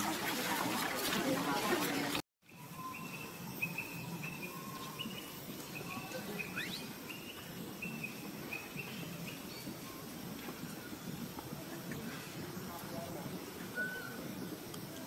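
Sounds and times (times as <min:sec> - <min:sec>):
outdoor background noise: 0:00.0 - 0:15.0
birds chirping: 0:02.5 - 0:15.0.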